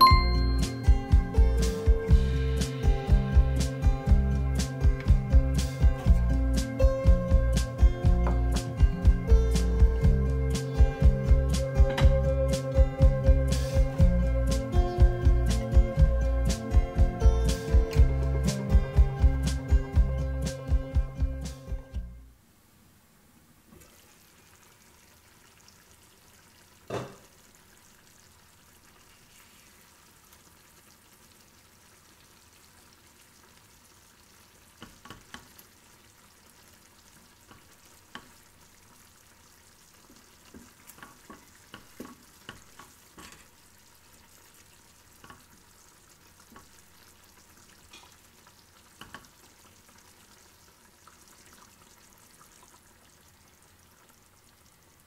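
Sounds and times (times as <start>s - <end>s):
curry sizzling in a frying pan: 0.0s - 21.8s, 23.7s - 55.0s.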